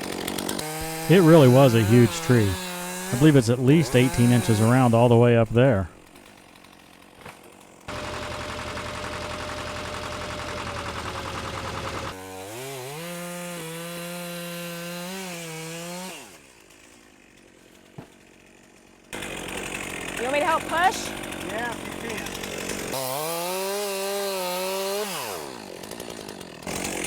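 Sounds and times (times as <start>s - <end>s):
chainsaw running high pitch: 0.0s - 17.5s, 18.2s - 27.0s
chainsaw cutting wood: 0.0s - 27.0s.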